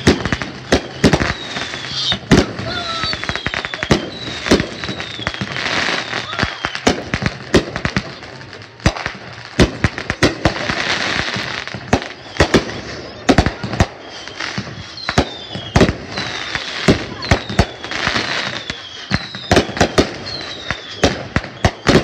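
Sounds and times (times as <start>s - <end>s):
crackling fireworks hiss: 0.0s - 22.0s
fireworks bangs: 0.0s - 22.0s.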